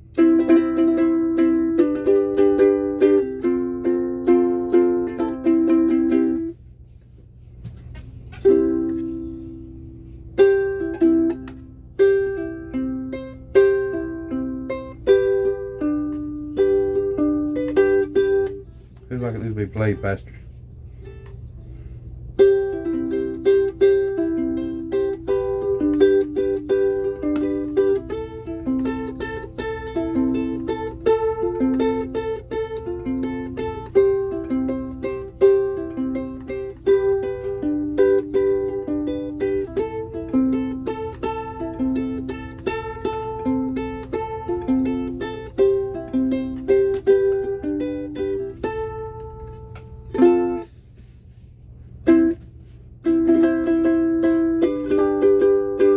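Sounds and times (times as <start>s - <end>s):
ukulele picked notes: 0.0s - 6.6s, 8.1s - 20.2s, 20.8s - 55.9s.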